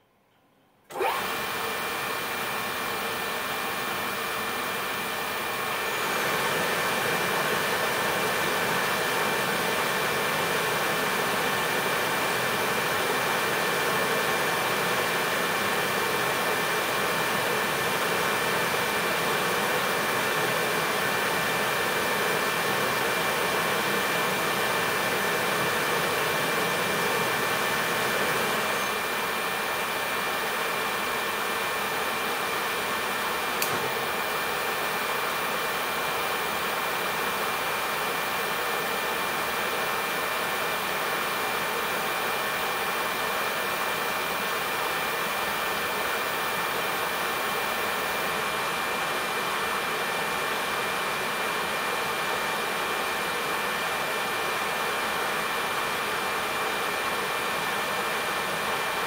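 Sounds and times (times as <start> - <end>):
heating burner running: 0.9 - 52.3.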